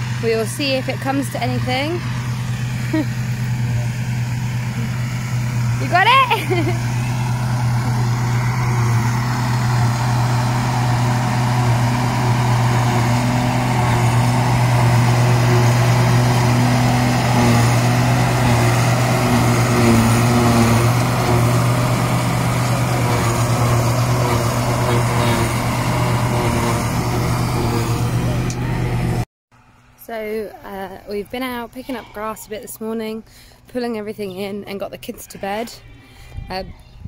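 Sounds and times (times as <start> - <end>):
deep engine drone: 0.0 - 32.3.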